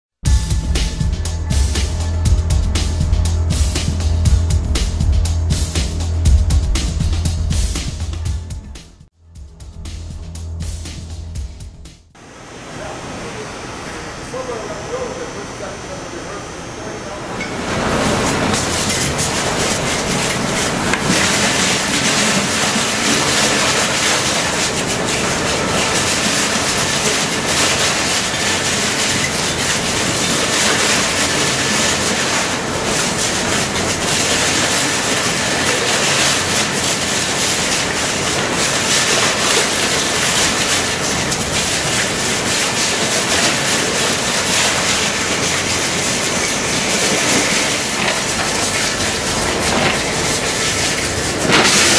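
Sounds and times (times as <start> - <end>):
shredder grinding tires: 0.3 - 8.7, 14.3 - 51.9.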